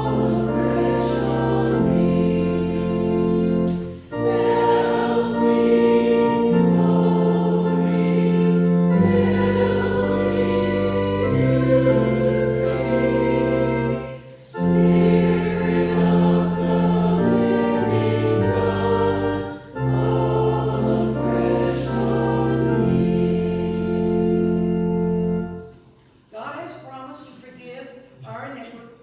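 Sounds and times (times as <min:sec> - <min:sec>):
group singing a slow hymn: 0:00.0 - 0:25.6.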